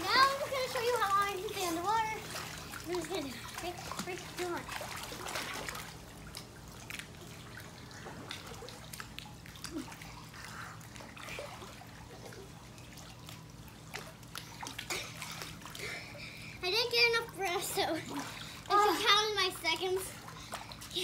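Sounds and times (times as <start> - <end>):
faint steady hum: 0.0 - 21.0
pool water lapping and splashing: 0.0 - 21.0.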